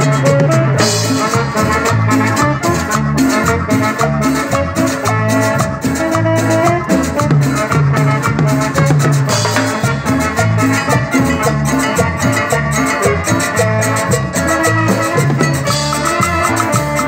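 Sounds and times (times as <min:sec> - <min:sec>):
live latin dance band: 0:00.0 - 0:17.0.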